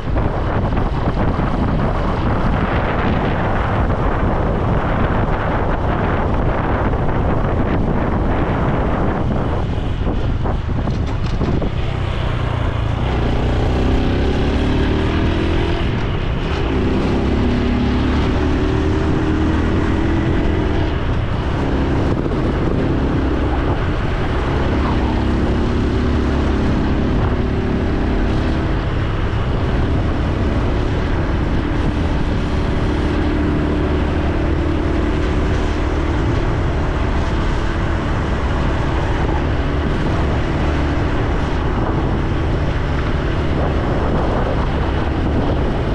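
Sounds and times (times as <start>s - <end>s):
motorcycle engine revving: 0.0s - 45.9s
wind rumble on microphone: 0.0s - 45.9s.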